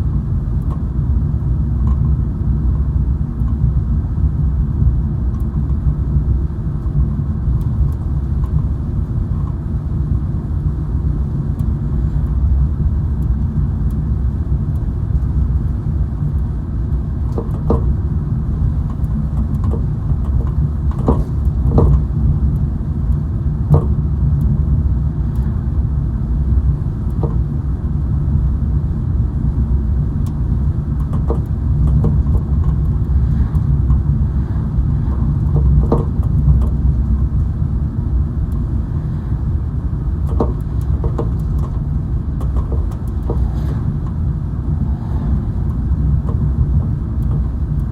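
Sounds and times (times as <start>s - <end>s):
car road rumble inside cabin: 0.0s - 47.9s.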